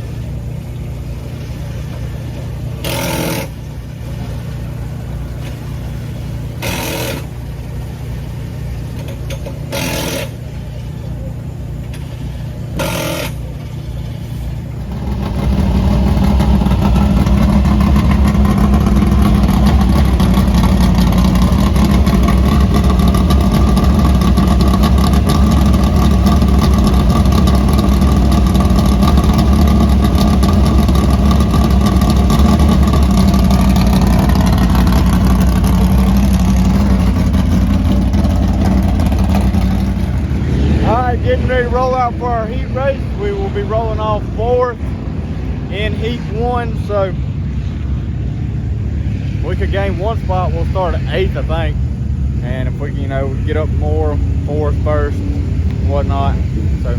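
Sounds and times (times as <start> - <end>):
race car engine idling: 0.0 - 56.9.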